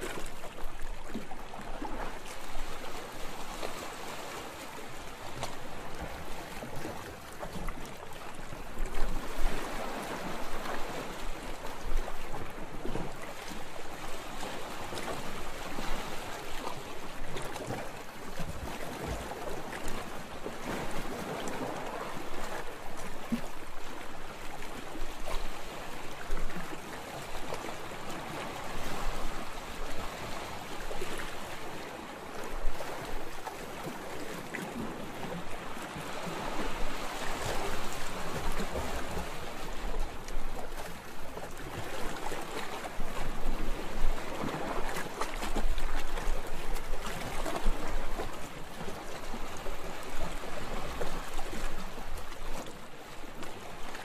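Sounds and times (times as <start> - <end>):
ocean waves sloshing: 0.0 - 54.0.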